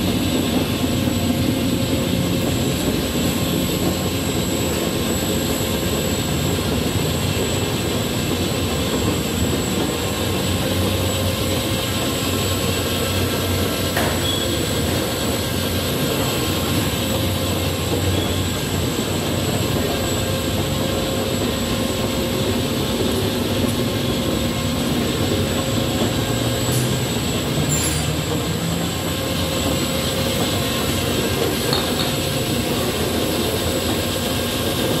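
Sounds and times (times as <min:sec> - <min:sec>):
high whine: 0:00.0 - 0:35.0
tablet press machine running: 0:00.0 - 0:35.0.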